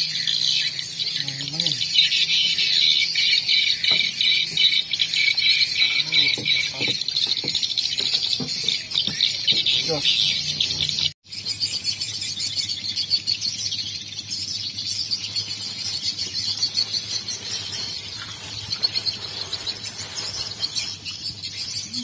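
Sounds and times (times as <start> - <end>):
birds and insects chirping: 0.0 - 22.0.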